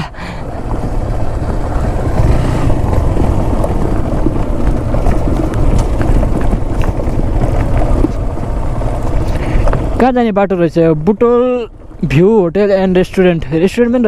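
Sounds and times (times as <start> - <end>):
wind and road rumble: 0.0 - 14.0
gravel clicks: 0.2 - 14.0.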